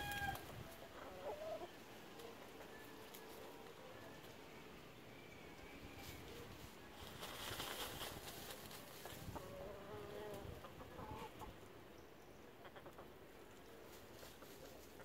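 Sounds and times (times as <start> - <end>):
chickens clucking: 0.0 - 4.4, 6.0 - 15.0.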